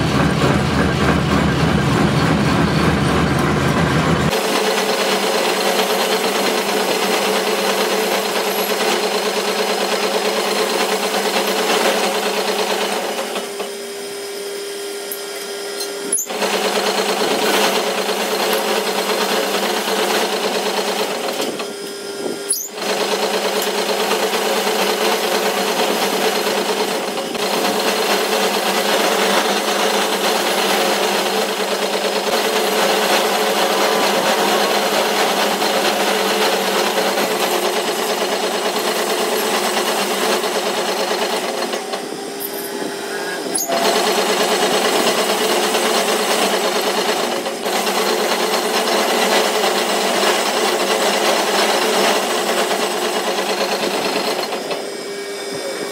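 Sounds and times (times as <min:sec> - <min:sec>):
lathe cutting steel: 0:00.0 - 0:55.9
metal lathe humming: 0:00.0 - 0:55.9.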